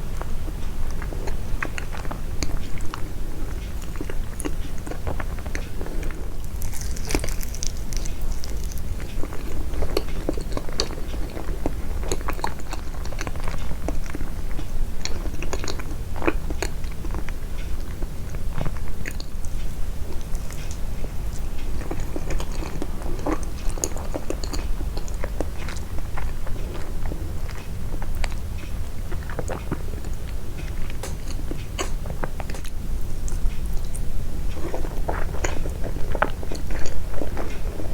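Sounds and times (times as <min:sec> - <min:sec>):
close-miked chewing: 0:00.0 - 0:37.9.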